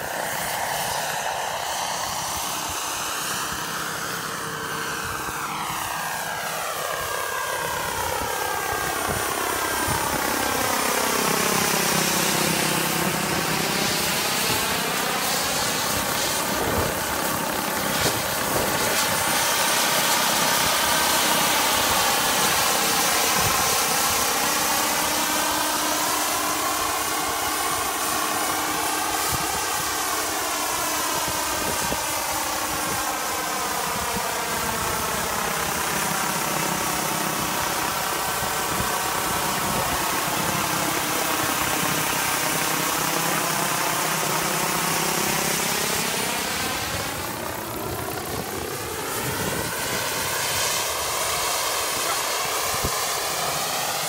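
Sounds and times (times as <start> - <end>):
helicopter rotor noise: 0.0 - 54.0
model helicopter turbine whine: 0.0 - 54.0.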